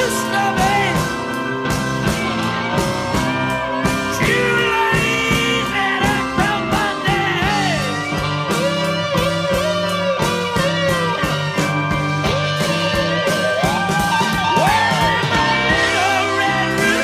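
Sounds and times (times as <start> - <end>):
rock band playing slow blues: 0.0 - 17.0.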